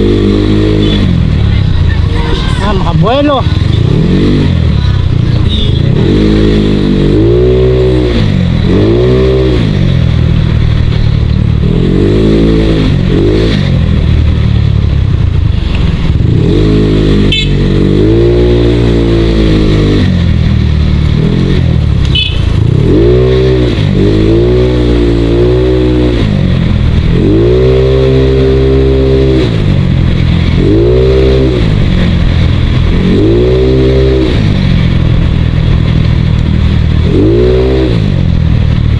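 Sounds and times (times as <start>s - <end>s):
motorcycle engine revving: 0.0s - 38.9s
wind and road rumble: 0.0s - 38.9s.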